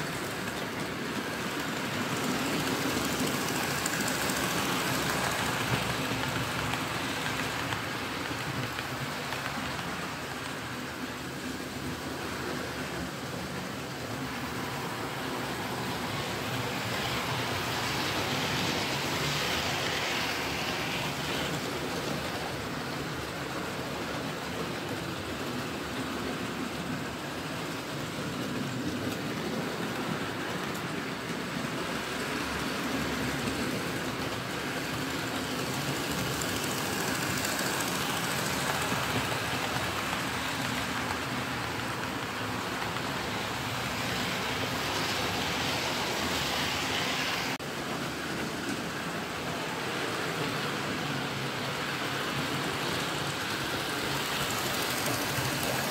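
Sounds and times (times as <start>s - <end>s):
model train wheels rumbling: 0.0s - 55.9s.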